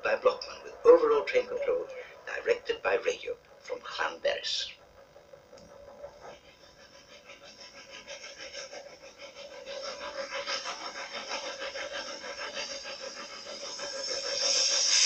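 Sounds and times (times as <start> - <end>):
steam locomotive chuffing: 0.0 - 15.0.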